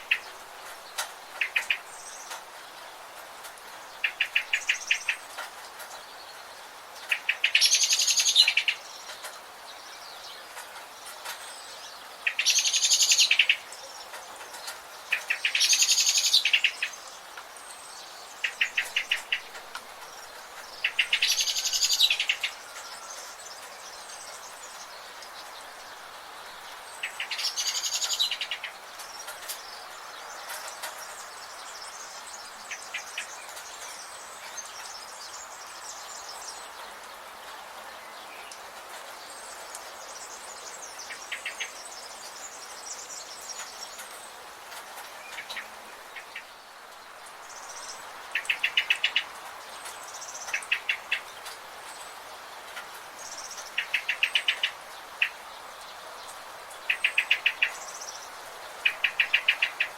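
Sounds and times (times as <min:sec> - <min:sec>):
birds singing and calling: 0:00.0 - 0:59.9
high background hiss: 0:00.0 - 0:59.9.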